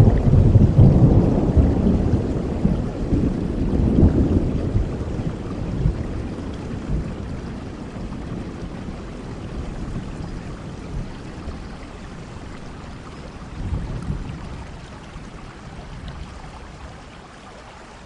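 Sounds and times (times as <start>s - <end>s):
thunder rumbling: 0.0s - 16.4s
steady rain falling: 0.0s - 18.0s.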